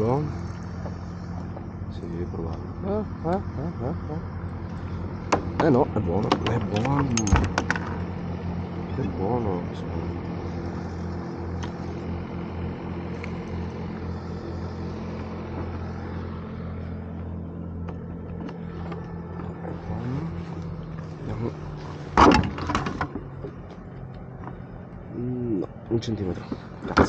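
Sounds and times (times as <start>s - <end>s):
boat motor droning: 0.0s - 27.0s.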